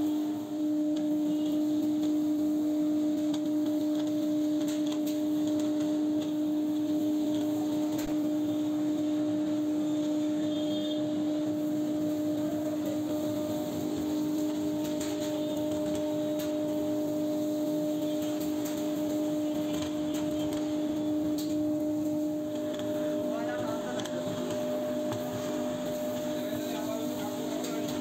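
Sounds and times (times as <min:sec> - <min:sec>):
dust extraction: 0:00.2 - 0:28.0.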